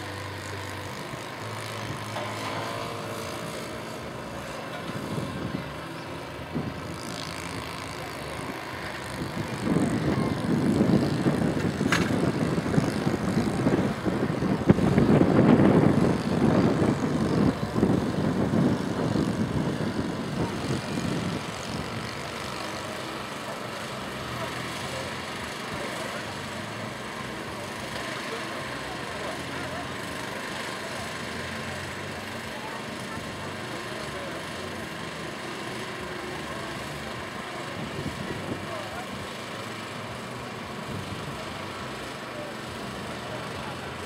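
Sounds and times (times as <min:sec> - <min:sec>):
propeller plane flying overhead: 0:00.0 - 0:44.0.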